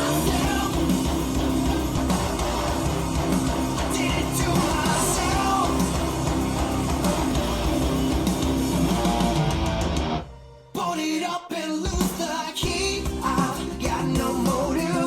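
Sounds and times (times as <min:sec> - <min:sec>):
rock-pop song through speakers: 0:00.0 - 0:15.0.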